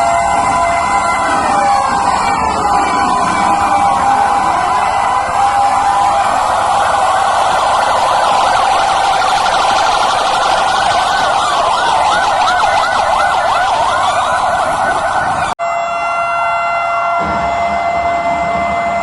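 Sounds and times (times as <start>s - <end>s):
police sirens wailing and yelping: 0.0s - 19.0s.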